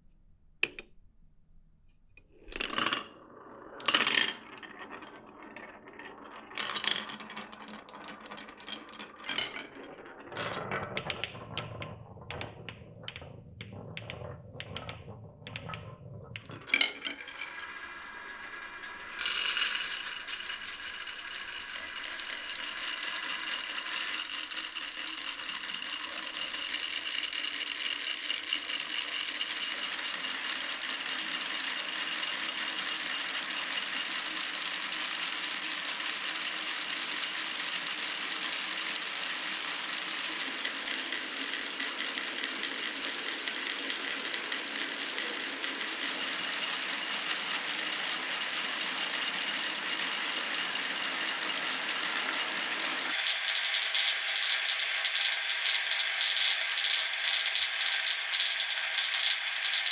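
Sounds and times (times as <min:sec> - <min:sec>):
marbles rattling on a track: 0:02.4 - 0:59.9.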